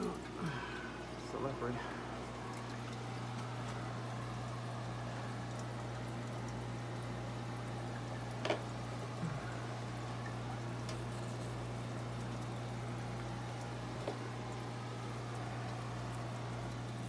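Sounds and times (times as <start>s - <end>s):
aquarium water bubbling: 0.0s - 17.0s
steady low hum: 0.0s - 17.0s.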